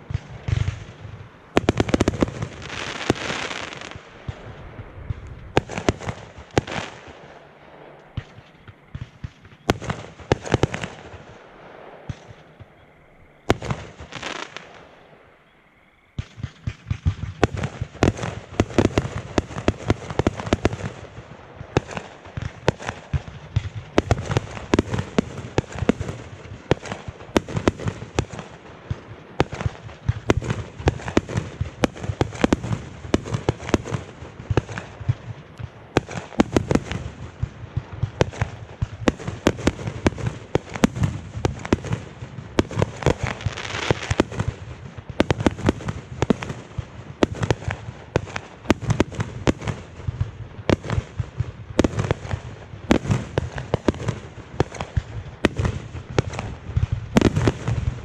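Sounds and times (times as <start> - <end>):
fireworks banging: 0.0 - 12.8, 13.4 - 15.1, 16.2 - 58.0.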